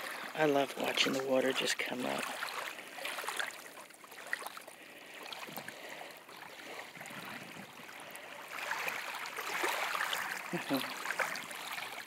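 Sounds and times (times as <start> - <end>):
small waves lapping on sand: 0.0 - 12.0.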